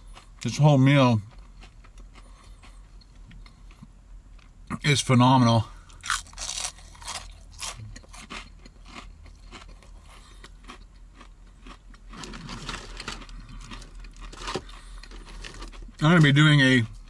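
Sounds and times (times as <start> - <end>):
person chewing crispy food: 1.2 - 4.5, 5.8 - 16.4.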